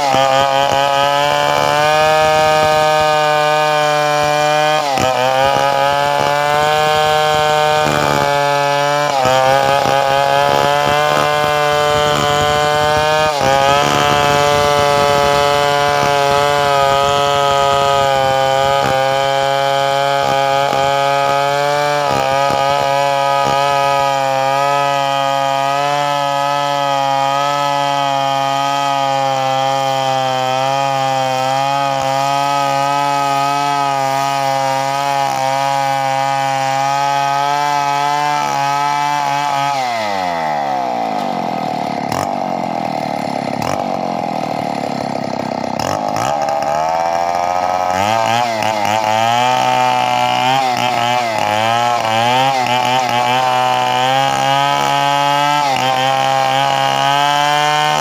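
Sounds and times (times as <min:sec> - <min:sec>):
chainsaw knocks: 0:00.0 - 0:26.2, 0:31.6 - 0:58.0
chainsaw running: 0:00.0 - 0:58.0.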